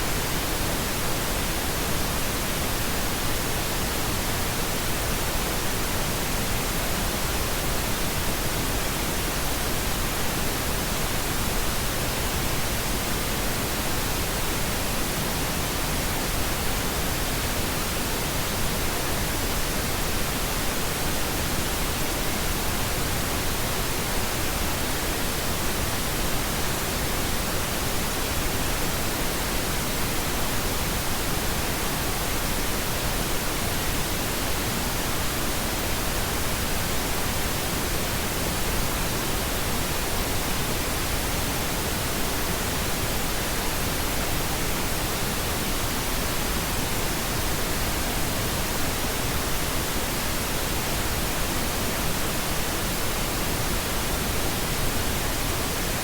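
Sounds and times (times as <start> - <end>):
steady pink noise: 0.0 - 56.0.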